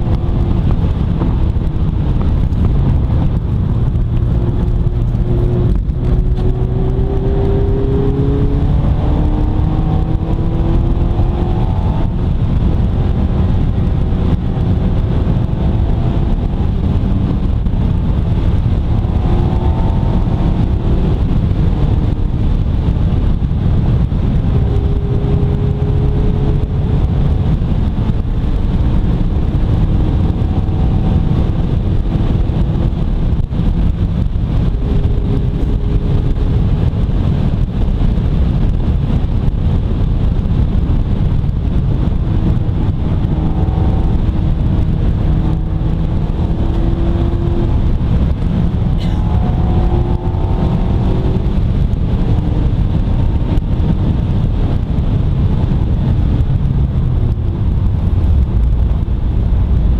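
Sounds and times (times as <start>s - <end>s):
car engine driving: 0.0s - 59.9s
wind and road noise: 0.0s - 59.9s.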